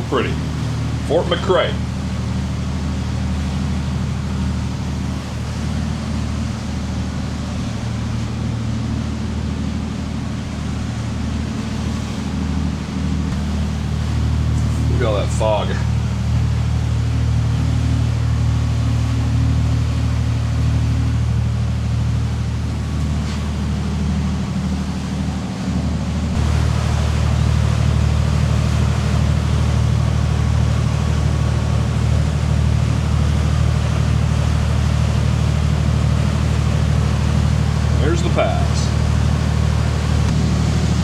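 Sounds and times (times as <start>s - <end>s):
diesel boat engine droning: 0.0s - 41.0s.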